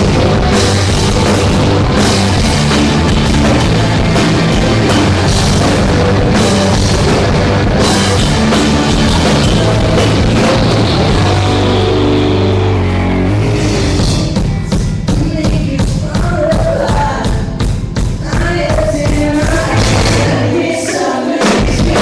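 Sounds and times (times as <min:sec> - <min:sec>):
rock band playing loud: 0:00.0 - 0:22.0.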